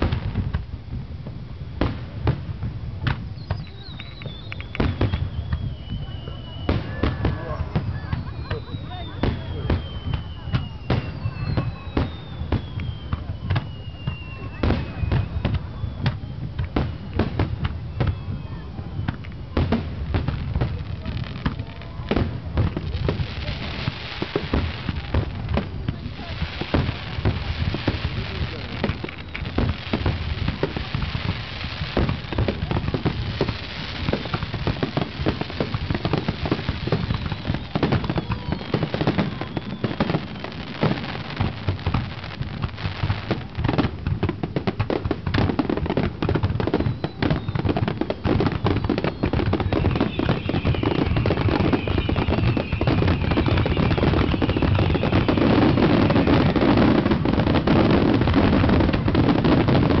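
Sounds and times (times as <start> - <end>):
fireworks bangs and crackles: 0.0 - 60.0.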